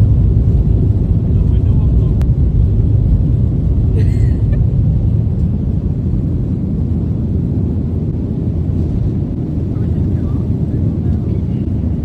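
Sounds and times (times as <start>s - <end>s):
vehicle rumbling in motion: 0.0s - 12.0s.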